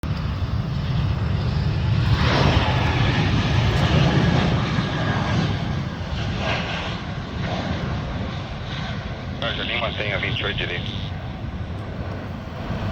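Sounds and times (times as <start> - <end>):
jet engine roar: 0.0 - 12.9.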